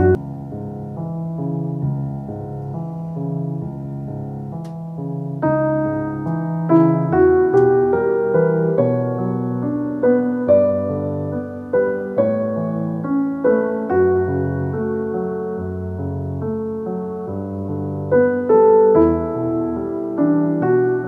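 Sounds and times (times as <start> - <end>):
slow solo piano through speaker: 0.0 - 21.0.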